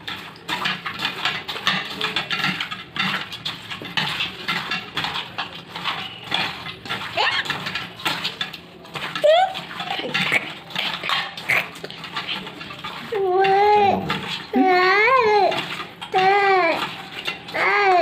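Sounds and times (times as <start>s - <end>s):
hands mixing chicken squelching: 0.0s - 18.0s.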